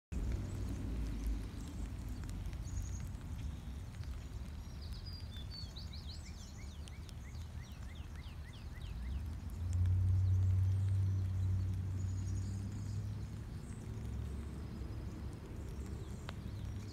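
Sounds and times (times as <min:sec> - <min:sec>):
light rain ticks: 0:00.1 - 0:16.9
steady low rumble: 0:00.1 - 0:16.9
songbird singing: 0:00.2 - 0:16.9.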